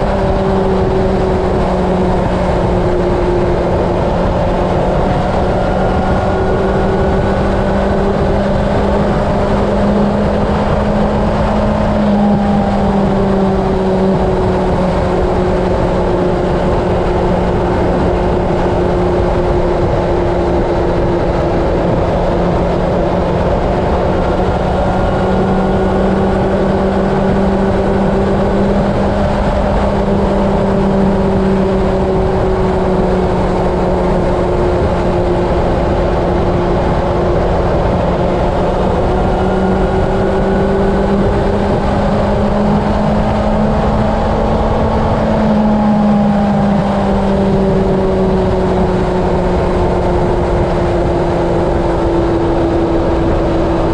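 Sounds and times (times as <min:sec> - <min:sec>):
motorcycle engine cruising: 0:00.0 - 0:53.9
wind rumble on microphone: 0:00.0 - 0:53.9.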